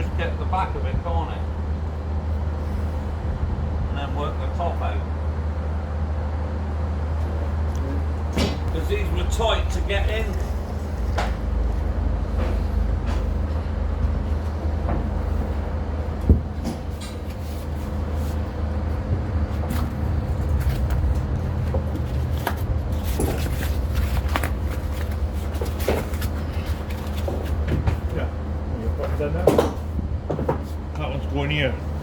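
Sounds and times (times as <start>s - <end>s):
low engine drone: 0.0s - 32.0s.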